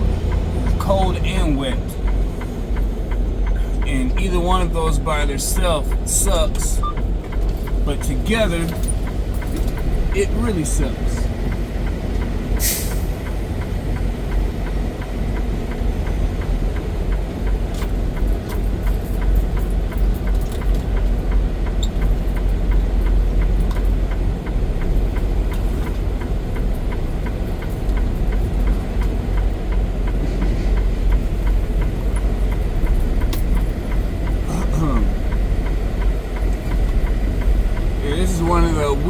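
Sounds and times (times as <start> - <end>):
diesel engine rumbling: 0.0 - 39.0.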